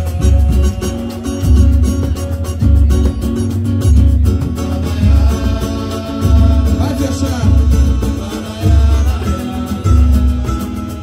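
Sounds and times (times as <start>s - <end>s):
voices singing: 0.0s - 2.1s, 4.2s - 11.0s
deep drum beat: 0.0s - 11.0s
hand drums: 0.0s - 11.0s.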